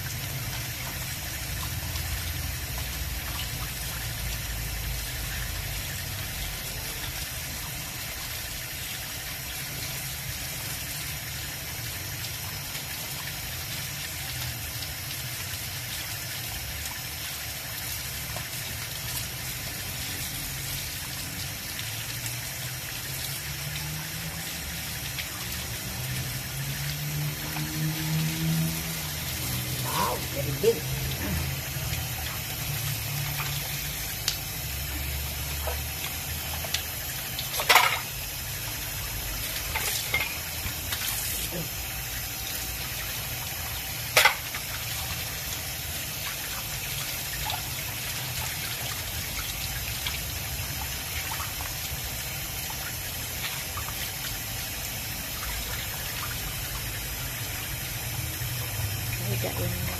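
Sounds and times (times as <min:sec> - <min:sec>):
tap water running into sink: 0:00.0 - 0:59.9.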